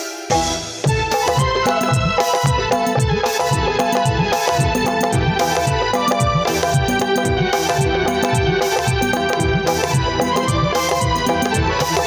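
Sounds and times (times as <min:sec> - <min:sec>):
sustained melody line: 0:00.2 - 0:12.0.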